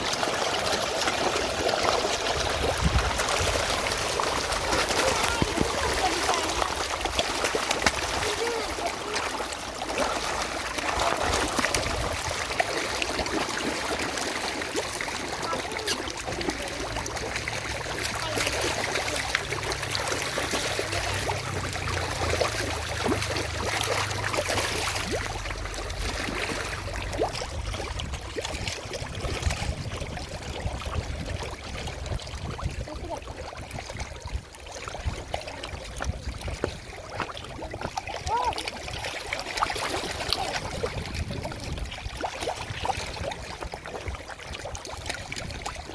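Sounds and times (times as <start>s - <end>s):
water splashing and trickling: 0.0s - 45.9s.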